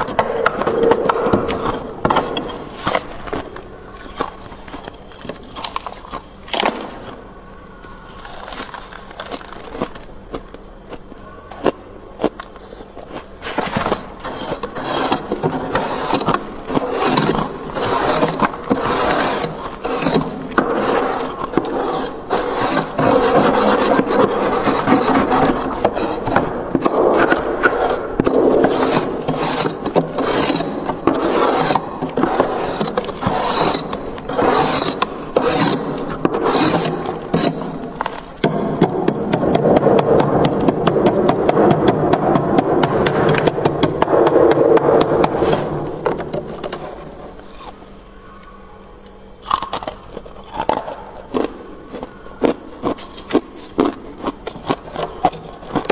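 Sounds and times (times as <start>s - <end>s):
frost scraping in freezer: 0.0s - 10.2s, 11.6s - 47.8s, 49.4s - 55.9s.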